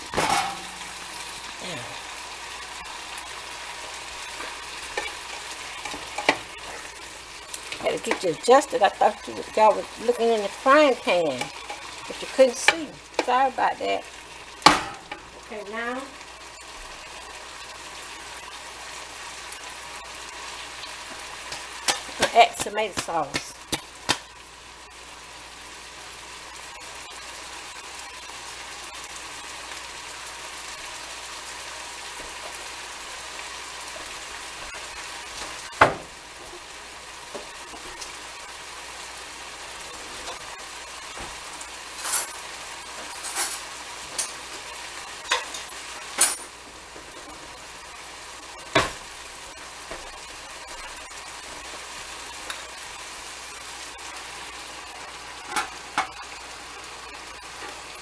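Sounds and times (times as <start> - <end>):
meat and onions sizzling in a pan: 0.0 - 58.0.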